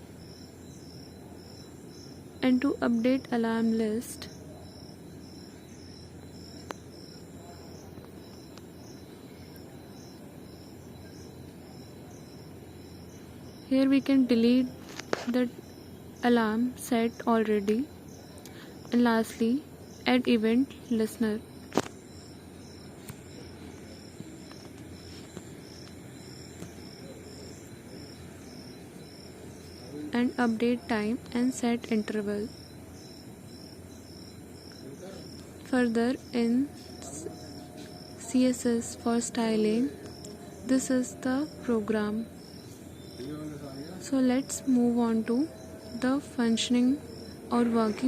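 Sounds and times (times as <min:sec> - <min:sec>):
cricket chirping: 0:00.0 - 0:48.0
low room hum: 0:00.0 - 0:48.0.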